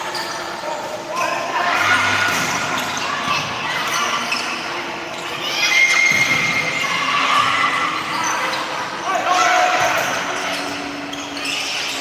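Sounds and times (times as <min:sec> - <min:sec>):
spectators shouting and cheering: 0:00.0 - 0:12.0.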